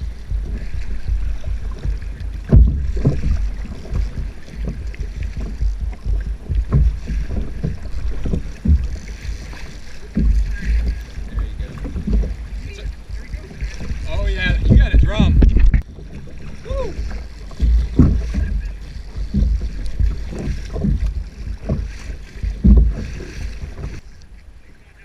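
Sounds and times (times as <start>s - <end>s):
wind buffeting microphone: 0.0s - 24.0s
low knocks and thumps: 0.0s - 24.1s
water slapping kayak hull: 0.0s - 25.0s.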